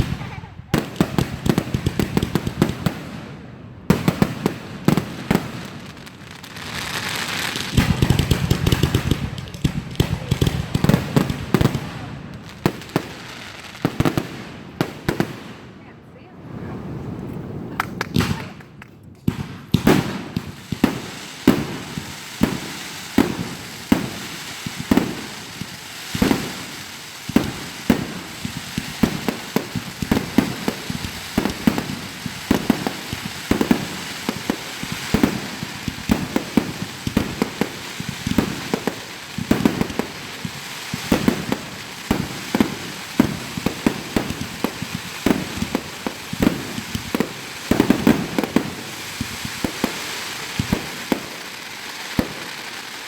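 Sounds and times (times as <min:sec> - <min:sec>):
fireworks banging: 0:00.0 - 0:03.2, 0:03.8 - 0:53.0
fireworks crackling: 0:00.0 - 0:53.0.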